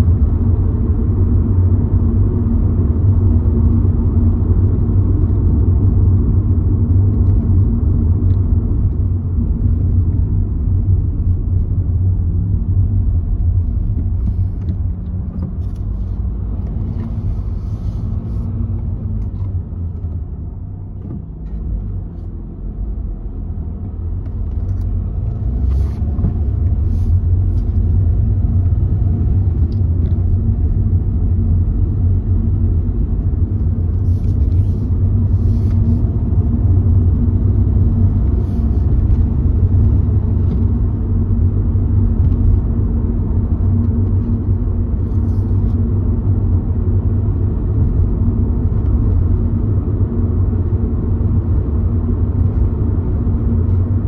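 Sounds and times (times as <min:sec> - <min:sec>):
car engine rumble: 0:00.0 - 0:54.0
tyres on road: 0:00.0 - 0:54.0.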